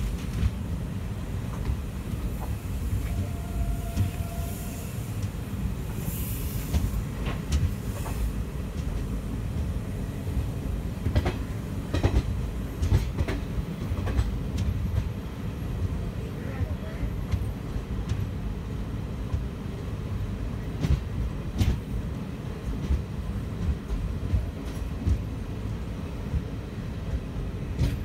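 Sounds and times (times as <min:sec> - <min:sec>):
train rumbling on rails: 0:00.0 - 0:28.0.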